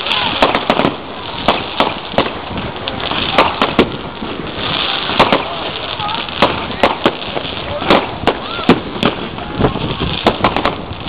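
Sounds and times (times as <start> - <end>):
continuous noisy hiss: 0.0 - 11.0
fireworks bursting with bangs: 0.0 - 11.0.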